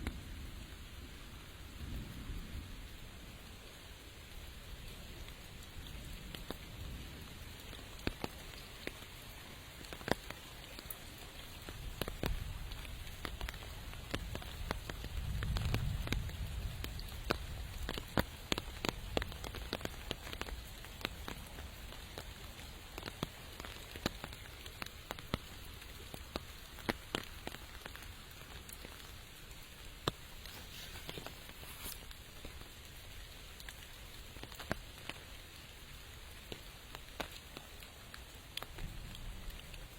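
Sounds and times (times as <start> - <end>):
raindrops ticking sharply: 0.0 - 39.9
steady rain falling: 0.0 - 39.9.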